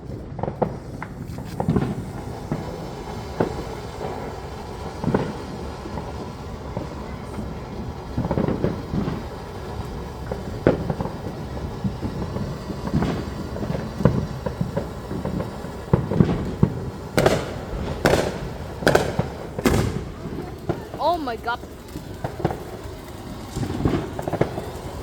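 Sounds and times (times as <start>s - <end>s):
continuous low rumble: 0.0s - 25.0s
fireworks bangs: 0.0s - 25.0s.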